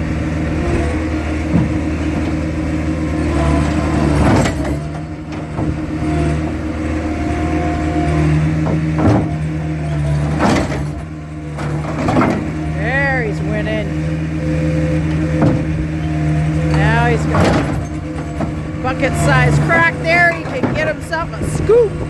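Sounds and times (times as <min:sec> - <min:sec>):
skid steer engine running: 0:00.0 - 0:22.0.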